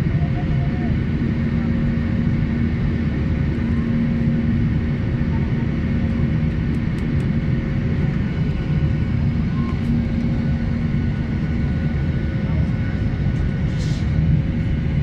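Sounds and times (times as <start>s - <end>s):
airliner cabin engine drone: 0.0s - 15.0s
low hum: 0.0s - 15.0s.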